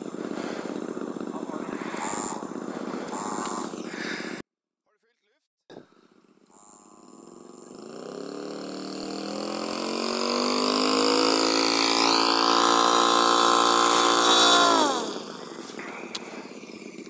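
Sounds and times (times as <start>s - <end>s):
model plane engine revving: 0.0s - 4.4s, 6.1s - 17.0s.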